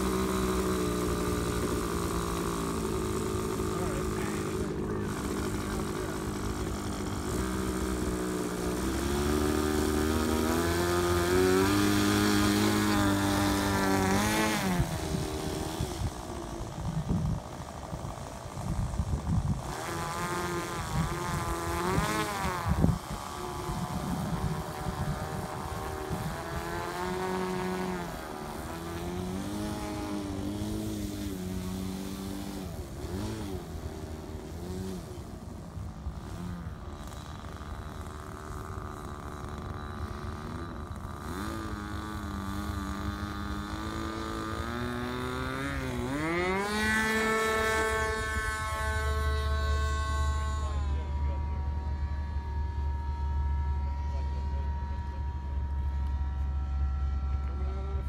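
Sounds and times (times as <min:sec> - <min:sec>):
model airplane engine running: 0:00.0 - 0:58.0.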